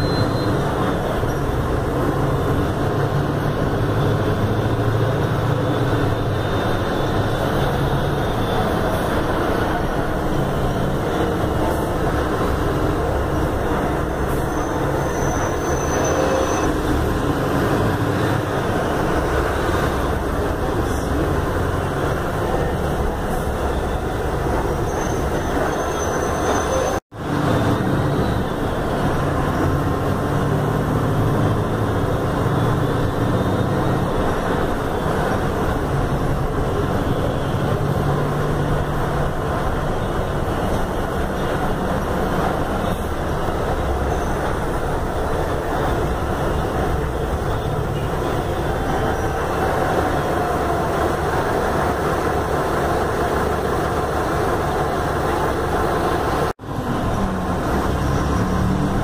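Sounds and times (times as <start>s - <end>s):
bus diesel engine hum: 0.0s - 59.0s
road noise: 0.0s - 59.0s.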